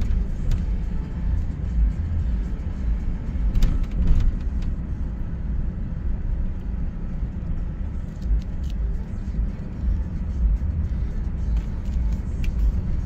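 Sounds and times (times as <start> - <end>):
car tyres and engine rumble: 0.0 - 13.0.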